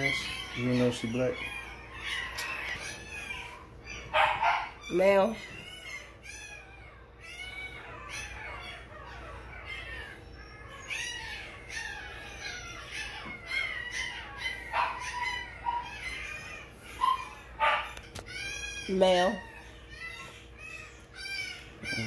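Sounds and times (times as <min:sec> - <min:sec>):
puppies squealing and whining: 0:00.0 - 0:22.0.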